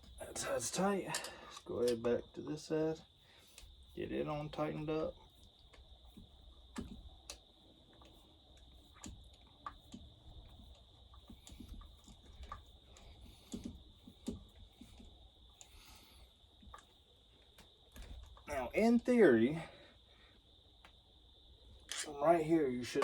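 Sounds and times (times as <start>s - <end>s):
faint high-pitched whine: 0.0s - 23.0s.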